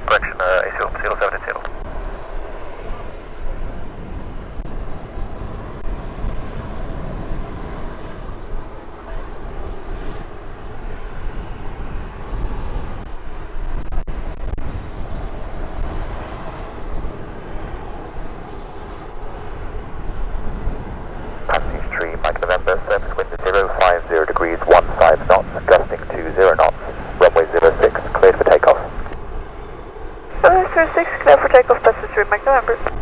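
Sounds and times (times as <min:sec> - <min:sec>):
aircraft engines running: 0:00.0 - 0:33.0
wind buffeting microphone: 0:01.7 - 0:33.0.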